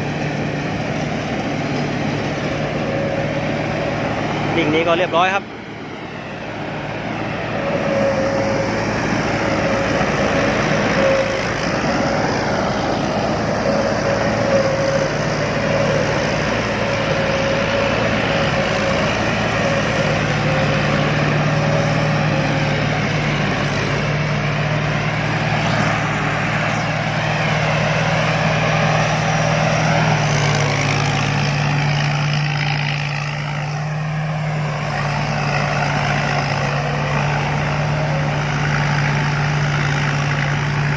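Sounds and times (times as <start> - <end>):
combine harvester engine: 0.0 - 40.9.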